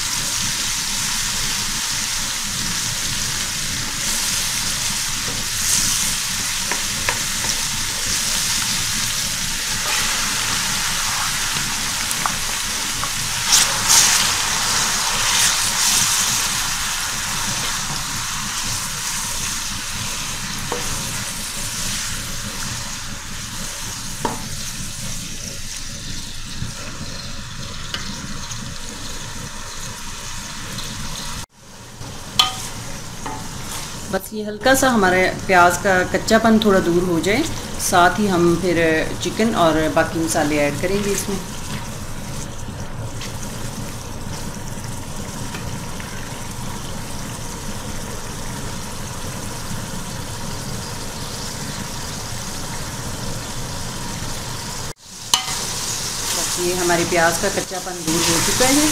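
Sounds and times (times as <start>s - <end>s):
onions sizzling in hot oil: 0.0s - 58.9s.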